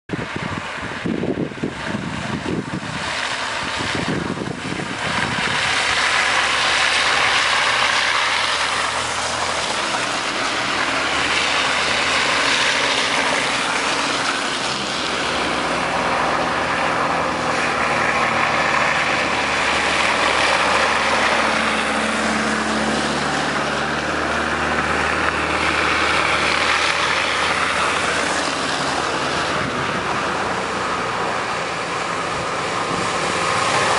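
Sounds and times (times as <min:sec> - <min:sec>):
vehicle engines running: 0:00.1 - 0:33.9.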